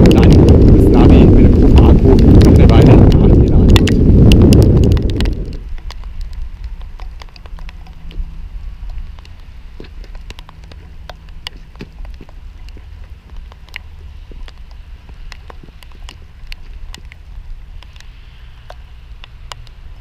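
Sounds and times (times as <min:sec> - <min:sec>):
raindrops ticking on camera: 0:00.0 - 0:20.0
steady low rumble: 0:00.0 - 0:20.0.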